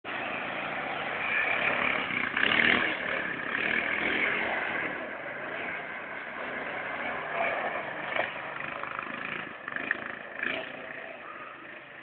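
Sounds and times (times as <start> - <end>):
quad bike engine revving: 0.2 - 12.0.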